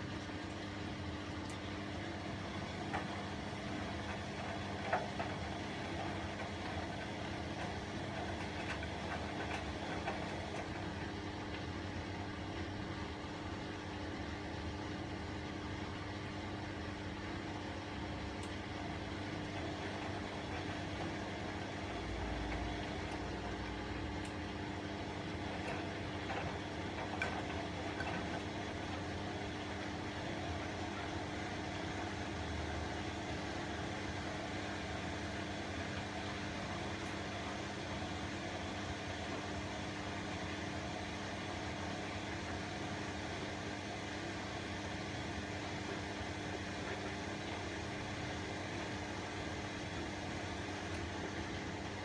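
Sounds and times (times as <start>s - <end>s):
washing machine motor hum: 0.0s - 52.0s.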